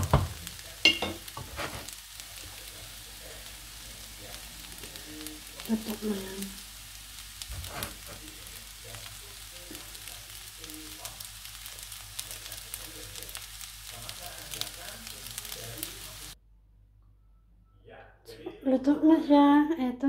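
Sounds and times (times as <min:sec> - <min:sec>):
food sizzling in a pan: 0:00.0 - 0:16.4.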